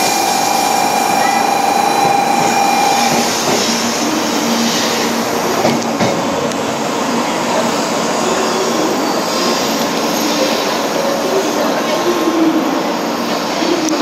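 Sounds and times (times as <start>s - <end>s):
train rushing past platform: 0.0s - 14.0s.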